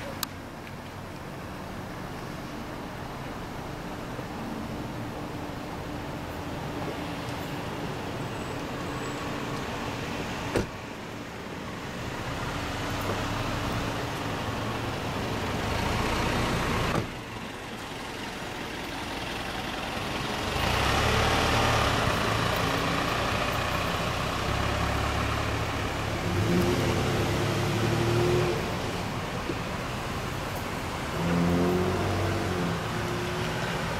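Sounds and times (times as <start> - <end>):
cars driving past: 0.0 - 33.9.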